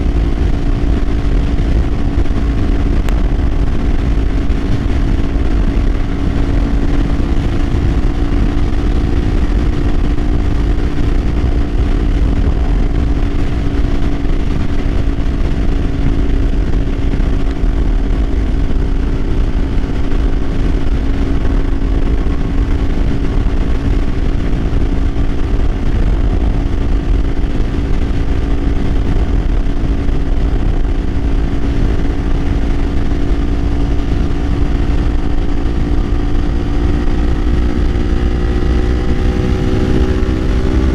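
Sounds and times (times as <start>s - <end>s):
motorcycle engine cruising: 0.0s - 40.9s
wind rumble: 0.0s - 40.9s.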